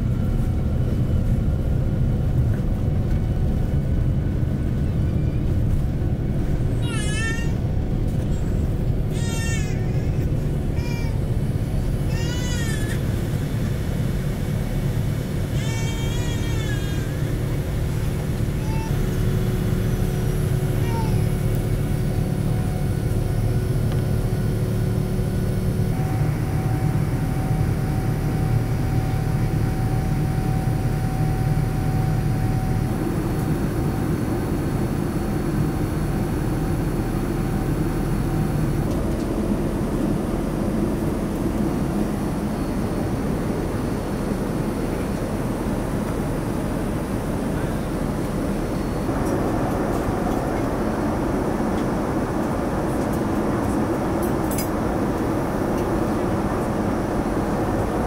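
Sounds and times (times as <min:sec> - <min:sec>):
airliner cabin rumble: 0:00.0 - 0:58.0
faint steady whines: 0:00.0 - 0:58.0.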